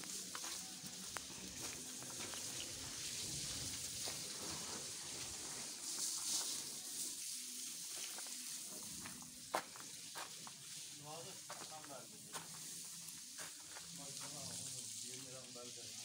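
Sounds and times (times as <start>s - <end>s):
pressure washer spraying water: 0.0s - 16.0s.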